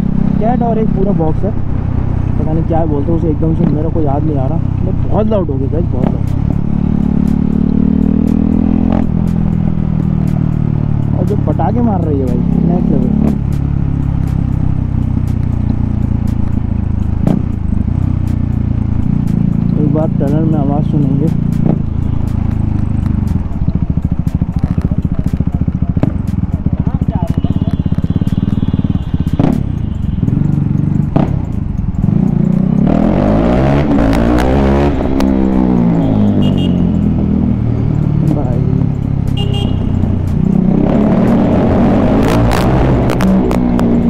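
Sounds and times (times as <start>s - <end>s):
loud motorcycle engine running: 0.0s - 44.0s
exhaust cracks: 8.2s - 44.0s.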